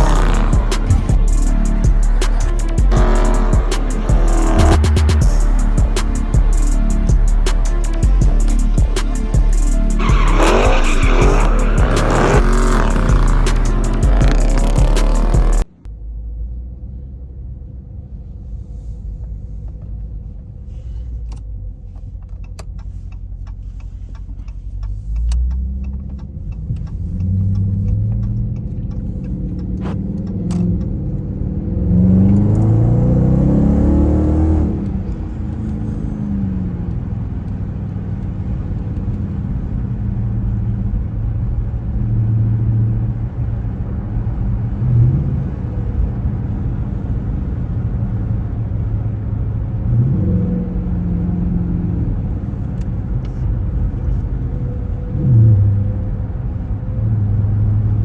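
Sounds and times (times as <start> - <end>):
car engine rumbling and accelerating: 0.0 - 58.0.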